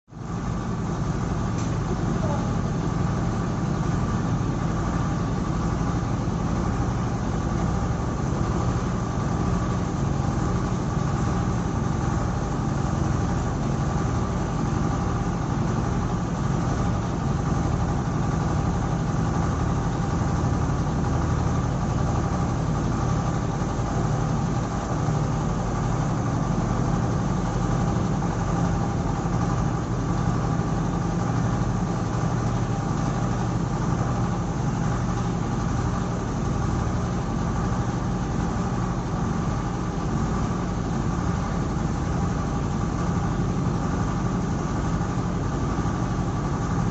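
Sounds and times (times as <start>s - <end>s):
mixer engine running steadily: 0.1s - 46.9s.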